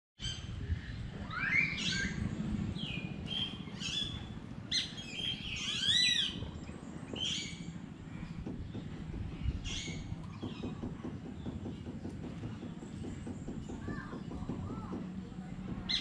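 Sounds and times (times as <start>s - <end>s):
birds chirping and whistling: 0.2s - 16.0s
low steady rumble: 0.2s - 16.0s.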